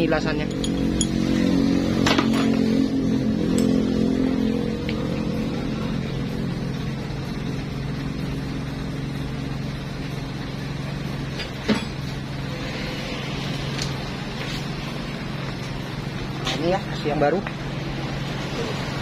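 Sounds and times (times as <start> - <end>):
low mechanical hum: 0.0 - 16.6.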